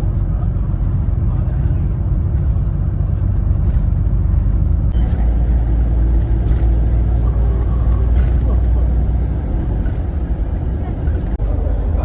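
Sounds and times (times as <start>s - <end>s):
road vehicle rumble: 0.0s - 12.0s.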